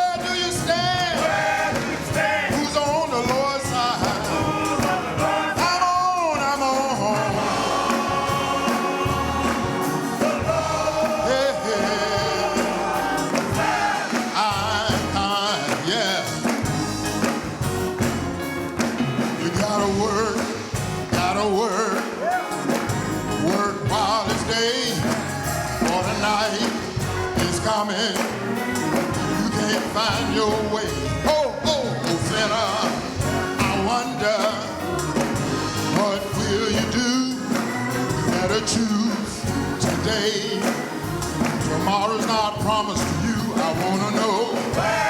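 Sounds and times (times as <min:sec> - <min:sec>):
person singing lead vocal: 0:00.0 - 0:17.2, 0:19.2 - 0:45.0
bass: 0:00.0 - 0:21.8, 0:22.7 - 0:40.4, 0:41.0 - 0:45.0
choir singing: 0:00.0 - 0:45.0
drums: 0:00.0 - 0:45.0
organ or keyboard: 0:00.0 - 0:45.0.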